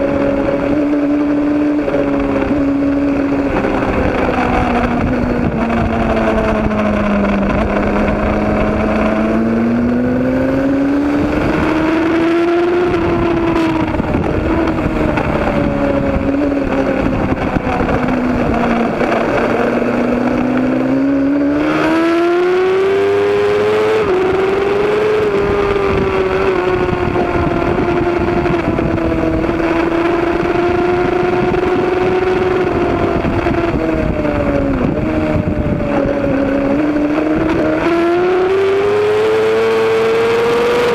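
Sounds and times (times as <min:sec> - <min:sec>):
racing motorcycle engine: 0:00.0 - 0:40.9.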